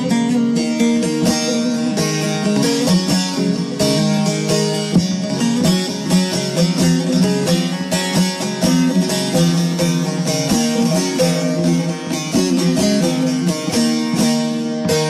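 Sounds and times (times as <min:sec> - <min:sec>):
low accompaniment: 0:00.0 - 0:15.0
plucked string instrument melody: 0:00.0 - 0:15.0.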